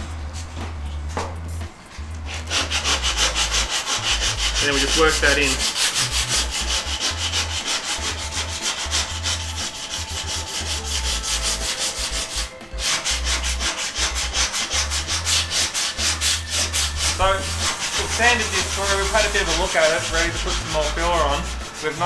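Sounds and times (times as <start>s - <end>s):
sandpaper sanding filler: 2.3s - 22.0s.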